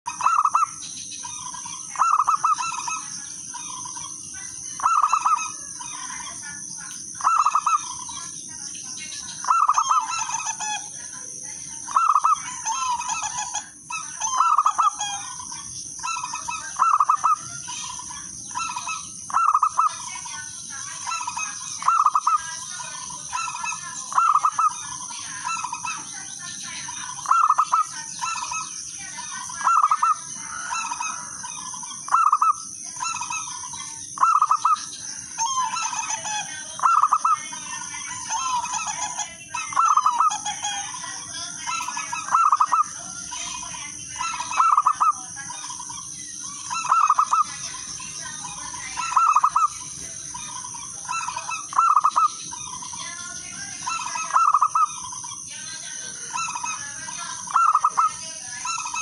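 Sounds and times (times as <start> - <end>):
dove cooing: 0.1 - 8.4, 9.1 - 59.0.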